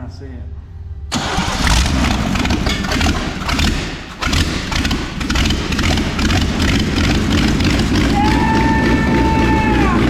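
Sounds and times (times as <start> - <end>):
truck engine running: 1.1 - 10.0.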